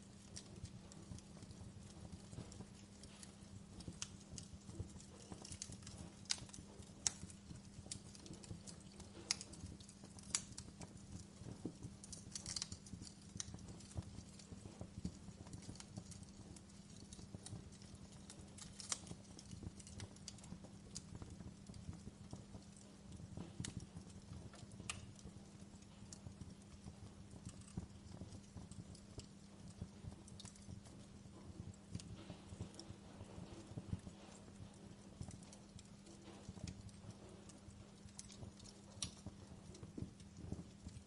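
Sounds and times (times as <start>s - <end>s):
low steady hum: 0.0s - 41.0s
wood fire crackling: 0.0s - 41.0s.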